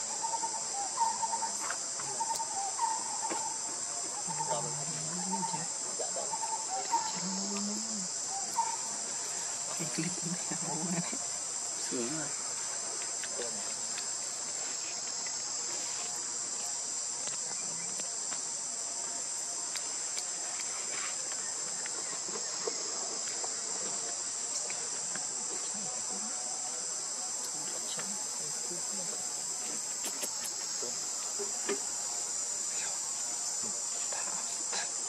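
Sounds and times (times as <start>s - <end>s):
insect chorus drone: 0.0s - 35.0s.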